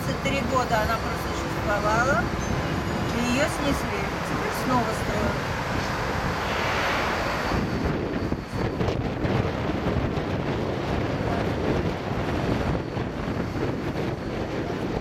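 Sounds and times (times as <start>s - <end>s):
road traffic: 0.0s - 15.0s
wind buffeting microphone: 0.0s - 15.0s.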